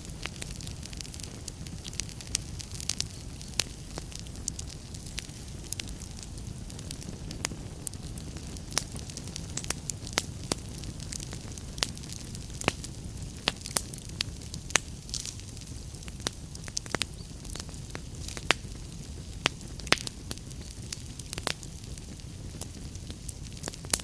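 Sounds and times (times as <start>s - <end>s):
burning wood crackling and popping: 0.0s - 24.0s
fire rumbling: 0.0s - 24.0s.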